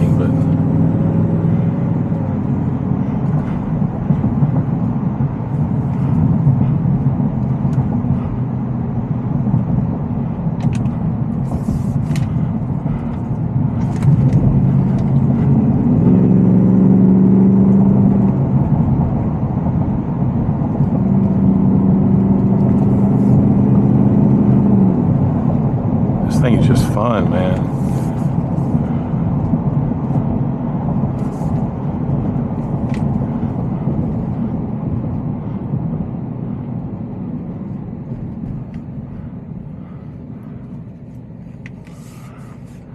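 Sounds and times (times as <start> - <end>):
pickup truck engine droning: 0.0 - 42.9
road noise: 0.0 - 42.9.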